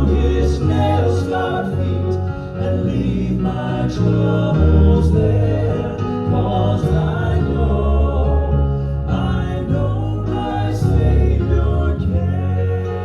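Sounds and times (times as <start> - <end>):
male vocal quartet singing: 0.0 - 13.0.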